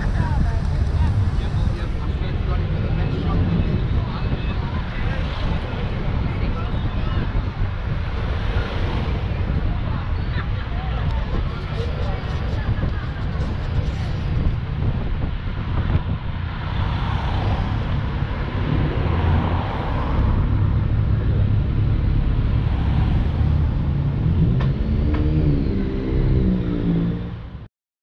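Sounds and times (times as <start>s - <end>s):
rumble of road vehicles: 0.0s - 27.7s.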